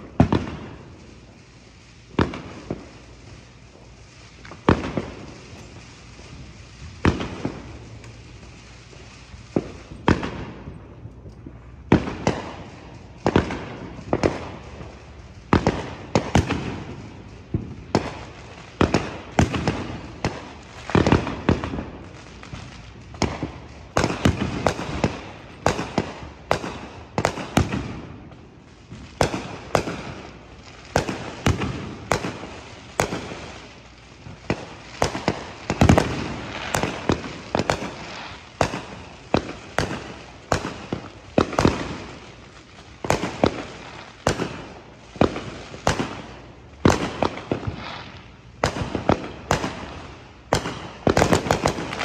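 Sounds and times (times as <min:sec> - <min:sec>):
fireworks banging: 0:00.0 - 0:52.0.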